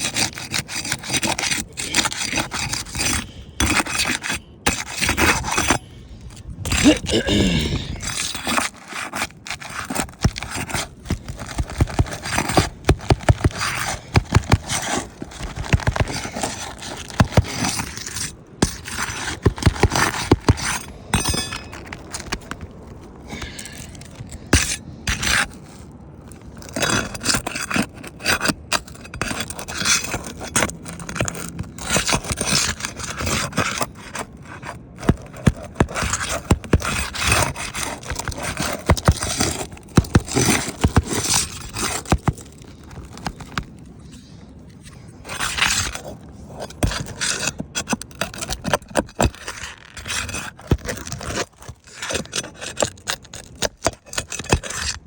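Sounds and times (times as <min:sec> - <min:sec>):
roof shingles being scraped and pried: 0:00.0 - 0:55.0.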